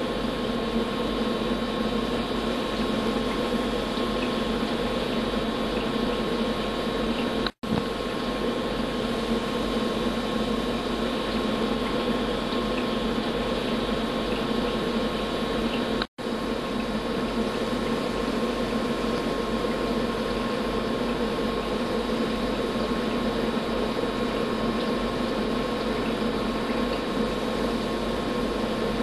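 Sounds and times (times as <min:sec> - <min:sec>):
machine hum and hiss: 0:00.0 - 0:29.0.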